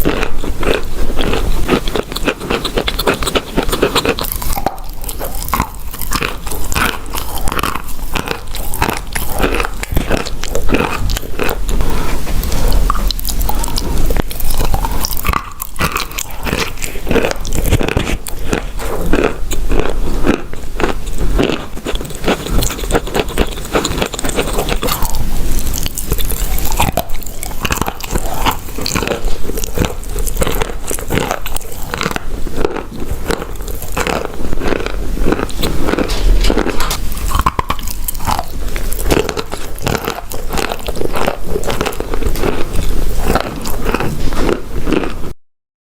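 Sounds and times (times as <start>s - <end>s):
chewing hard crunchy pieces: 0.0s - 45.4s.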